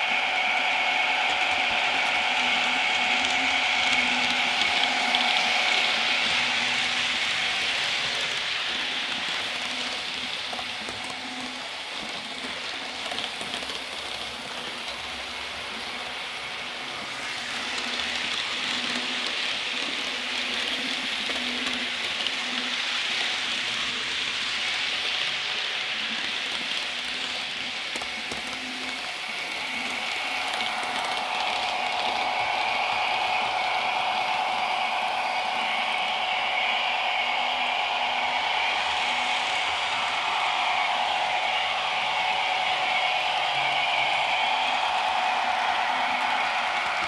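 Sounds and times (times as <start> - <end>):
model train wheels on rails: 0.0 - 47.0.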